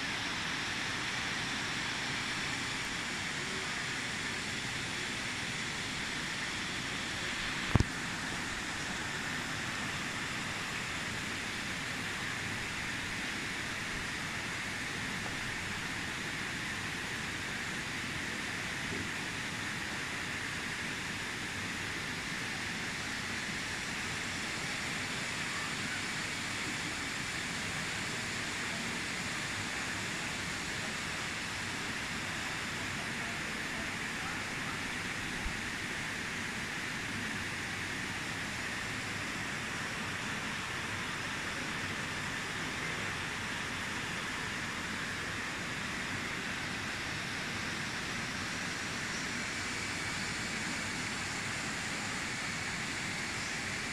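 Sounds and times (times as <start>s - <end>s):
stream water rushing over rocks: 0.0s - 53.9s.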